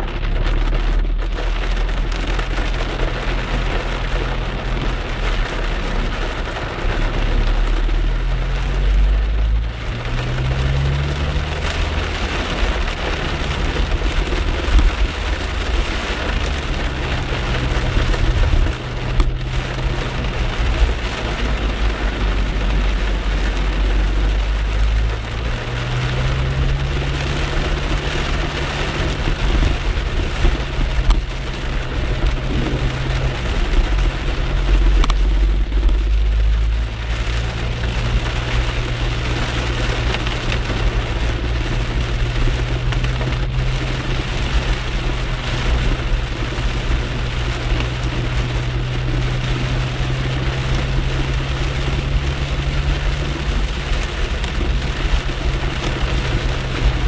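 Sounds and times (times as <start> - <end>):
car engine and tyres hum: 0.0 - 57.0
heavy rain on car roof: 0.0 - 57.0.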